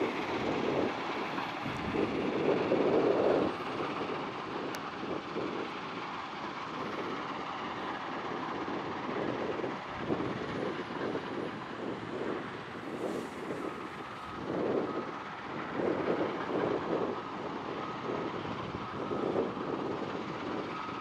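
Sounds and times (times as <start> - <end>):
wheel loader diesel engine rumble: 0.0 - 21.0.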